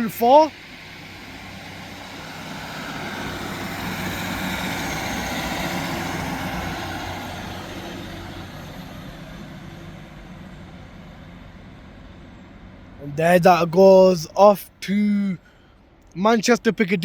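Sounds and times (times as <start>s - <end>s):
diesel train pulling away: 0.4s - 14.3s.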